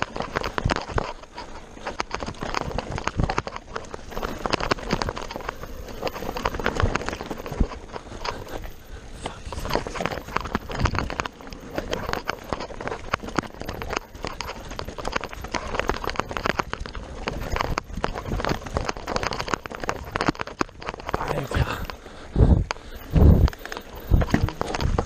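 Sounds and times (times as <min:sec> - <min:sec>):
bike chain and frame rattling: 0:00.0 - 0:25.0
bike tyres crunching over stones: 0:00.0 - 0:25.0.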